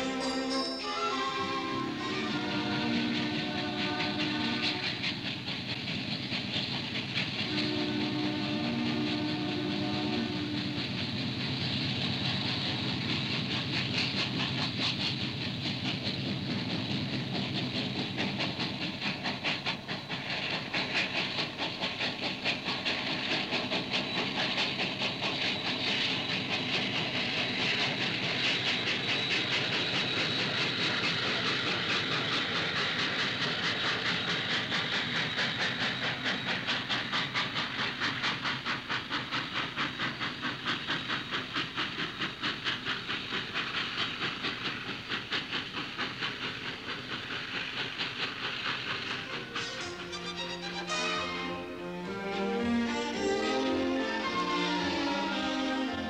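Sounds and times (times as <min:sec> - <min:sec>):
hissing steam: 0:00.0 - 0:56.0
steam locomotive exhaust beating: 0:00.0 - 0:56.0
train running noise: 0:00.0 - 0:56.0.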